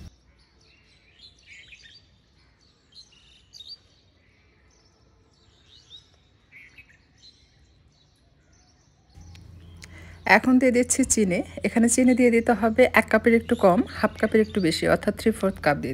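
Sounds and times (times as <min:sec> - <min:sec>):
faint birds chirping: 0:00.0 - 0:15.9.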